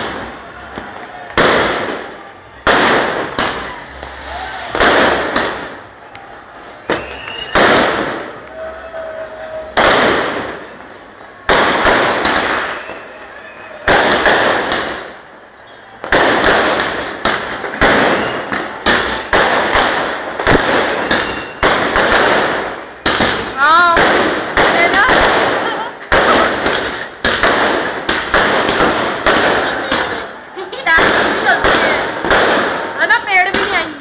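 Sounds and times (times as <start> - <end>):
firecrackers bursting: 0.0 - 34.0.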